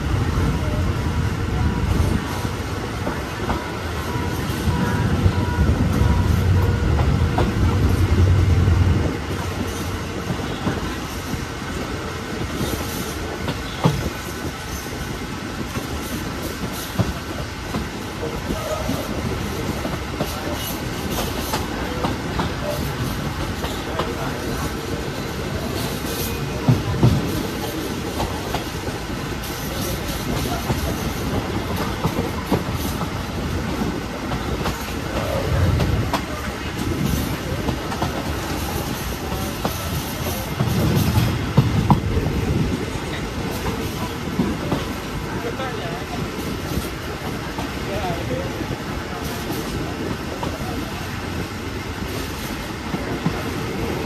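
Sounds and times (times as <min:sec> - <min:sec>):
train rumble and rail noise: 0:00.0 - 0:54.0.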